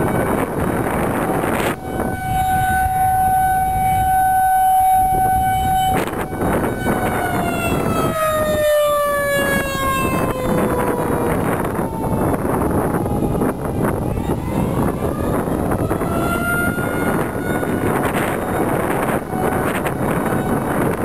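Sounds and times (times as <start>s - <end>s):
warning siren winding down: 0.0s - 21.0s
wind noise on microphone: 0.0s - 21.0s.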